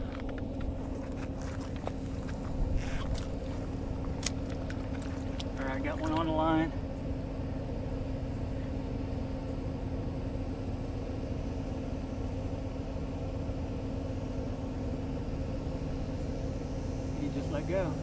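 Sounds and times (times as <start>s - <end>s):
low mechanical rumble with hum: 0.0s - 18.0s.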